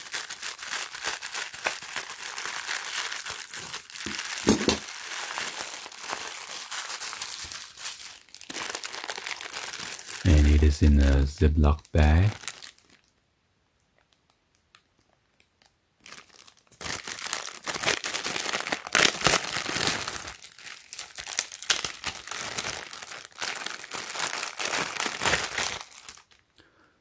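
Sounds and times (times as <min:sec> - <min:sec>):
plastic bag crinkling: 0:00.0 - 0:13.1, 0:15.6 - 0:26.5.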